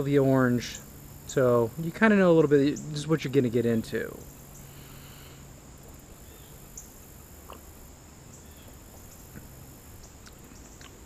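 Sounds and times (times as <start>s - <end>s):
crickets chirring: 0.0s - 11.0s
faint low hum: 0.0s - 11.0s.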